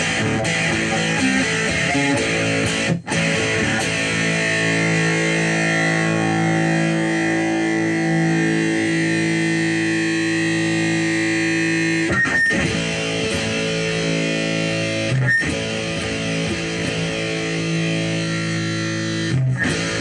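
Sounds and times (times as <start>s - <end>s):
electric guitar overdriven chords: 0.0s - 20.0s.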